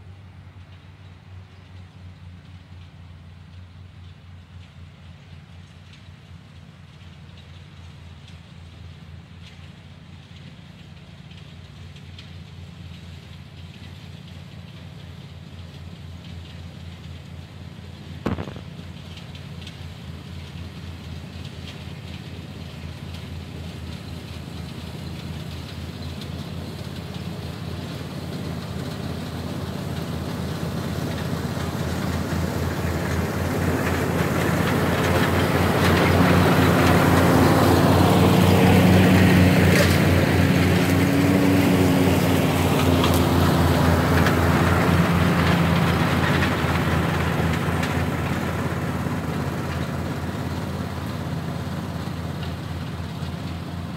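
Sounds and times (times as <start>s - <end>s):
engine passing slowly: 0.0s - 53.9s.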